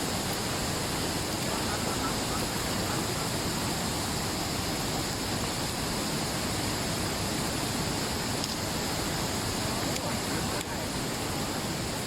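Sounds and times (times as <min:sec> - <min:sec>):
rushing river and waterfall: 0:00.0 - 0:12.0.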